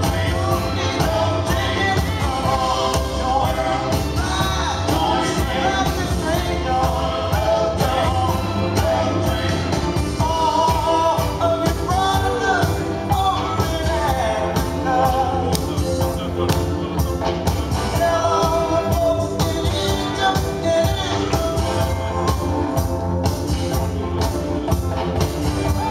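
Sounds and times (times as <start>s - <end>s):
person singing: 0.0s - 23.0s
funk dance music: 0.0s - 25.9s.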